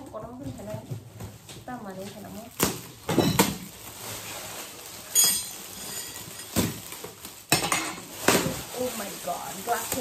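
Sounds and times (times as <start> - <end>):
metallic gift wrap tearing: 1.4 - 10.0.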